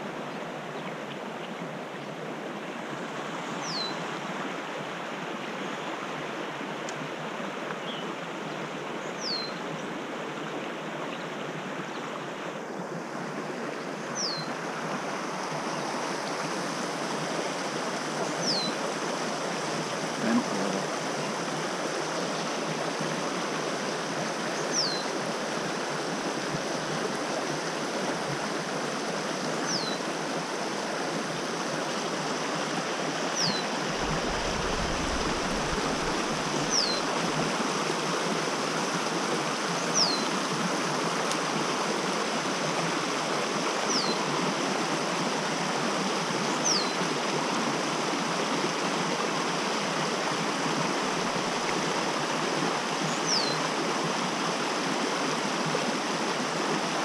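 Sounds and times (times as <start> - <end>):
creek rushing over stones: 0.0 - 57.0.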